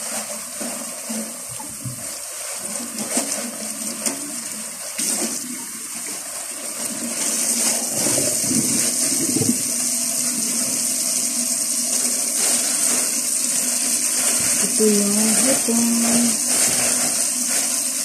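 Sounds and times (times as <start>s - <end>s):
tap running into a sink: 0.0s - 6.3s, 7.0s - 18.0s.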